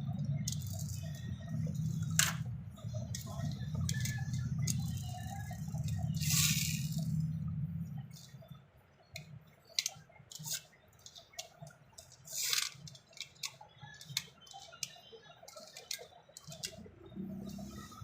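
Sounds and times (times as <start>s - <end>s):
toy cars clicking and tapping: 0.0s - 7.4s, 9.1s - 18.0s.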